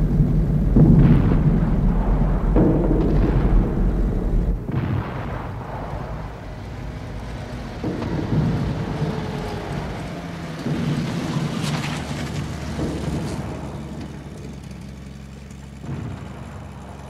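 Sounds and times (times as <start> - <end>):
car engine rumble: 0.0 - 17.0
car passing on street: 0.0 - 17.0
road noise: 0.0 - 17.0.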